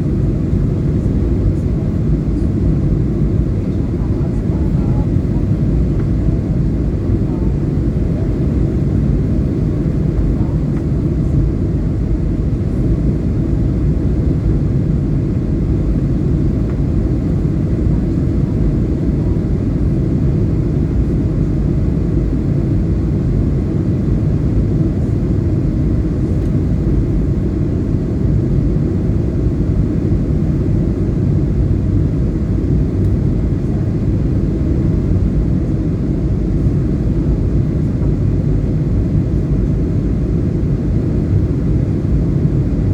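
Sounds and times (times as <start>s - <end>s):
airliner cabin engine rumble: 0.0s - 42.9s.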